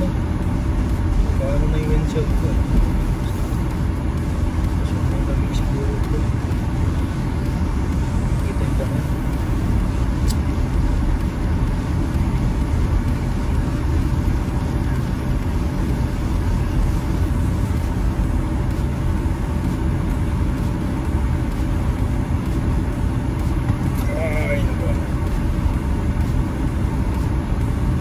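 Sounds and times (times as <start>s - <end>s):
tyre and engine rumble: 0.0s - 28.0s.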